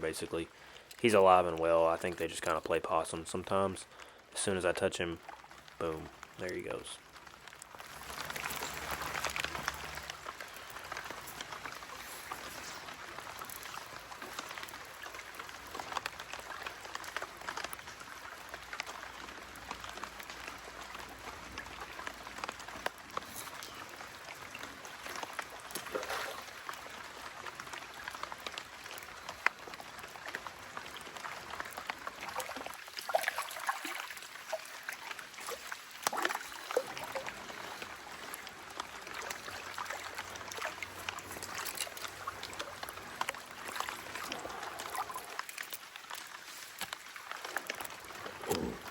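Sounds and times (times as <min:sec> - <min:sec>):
creek water running: 0:00.0 - 0:48.9
water drops and splashes: 0:05.2 - 0:48.9.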